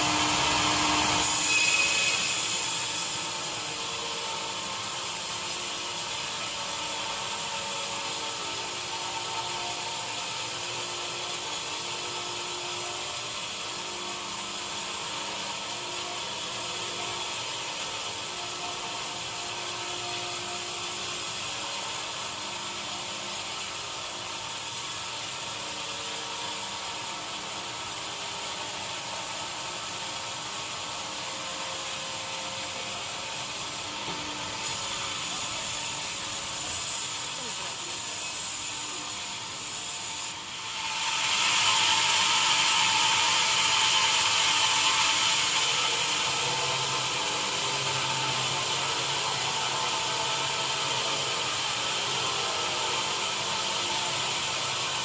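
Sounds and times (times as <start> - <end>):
sawmill saw whining: 0.0 - 55.0.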